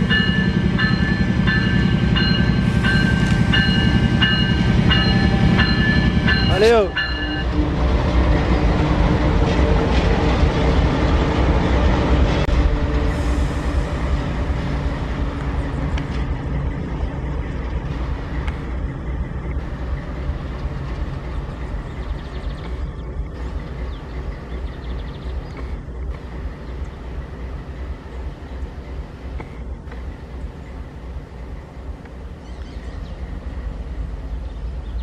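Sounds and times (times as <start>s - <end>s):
freight locomotives rumbling past: 0.0s - 35.0s.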